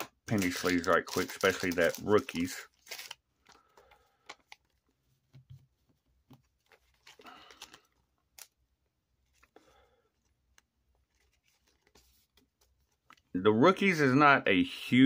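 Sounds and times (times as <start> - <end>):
plastic sleeves rustling: 0.0 - 13.5.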